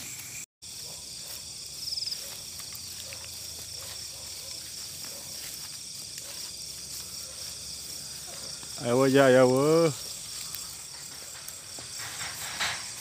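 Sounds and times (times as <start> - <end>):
cricket trill: 0.0 - 13.0
crickets chirring: 0.0 - 13.0.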